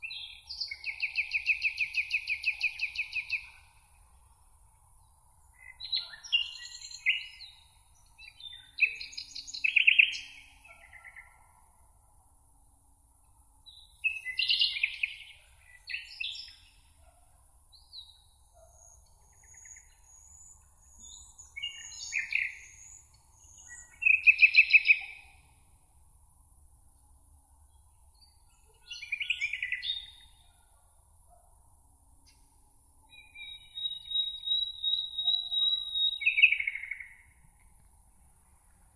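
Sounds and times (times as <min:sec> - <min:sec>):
songbirds singing chirps and trills: 0:00.0 - 0:38.9.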